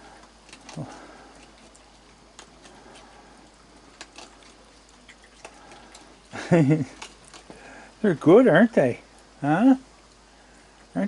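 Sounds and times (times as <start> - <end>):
animals chewing food: 0.0 - 11.0.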